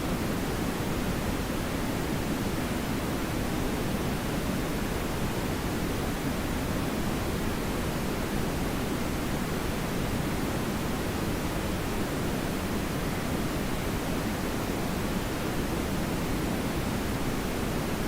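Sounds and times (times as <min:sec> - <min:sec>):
television static hiss: 0:00.0 - 0:18.0.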